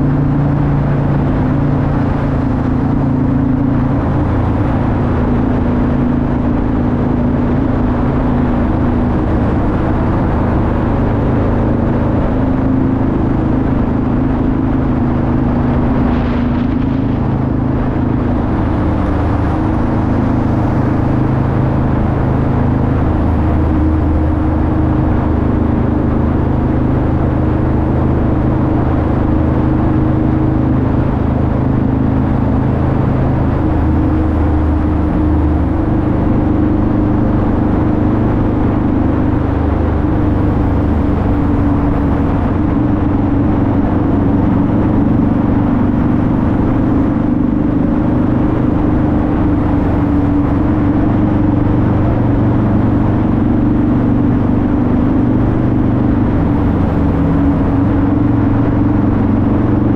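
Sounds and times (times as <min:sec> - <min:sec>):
motorcycle engine cruising in tunnel: 0:00.0 - 0:59.9.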